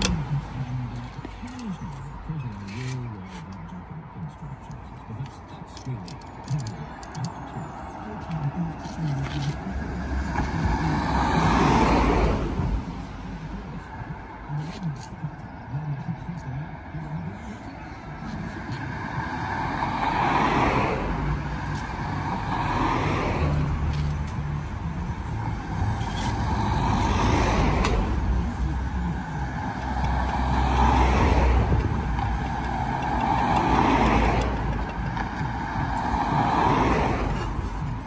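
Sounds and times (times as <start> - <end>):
cars passing: 0.0 - 38.0
low engine rumble: 5.9 - 38.0.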